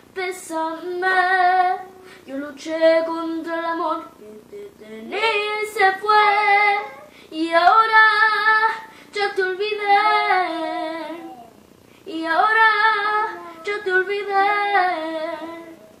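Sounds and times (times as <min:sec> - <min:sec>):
girl singing unaccompanied: 0:00.0 - 0:16.0.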